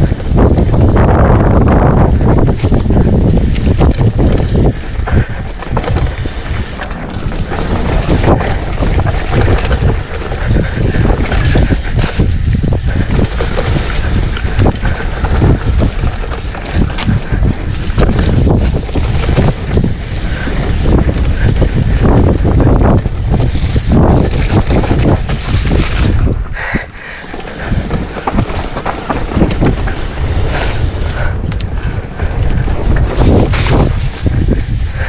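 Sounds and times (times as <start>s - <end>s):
bike knocking and rattling: 0.0s - 35.0s
bike tyres rumbling on dirt: 0.0s - 35.0s
wind buffeting microphone: 0.0s - 35.0s.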